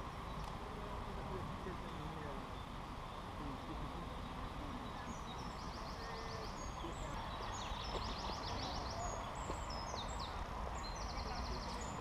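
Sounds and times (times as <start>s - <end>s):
low outdoor background noise: 0.0s - 12.0s
songbirds chirping: 0.0s - 12.0s.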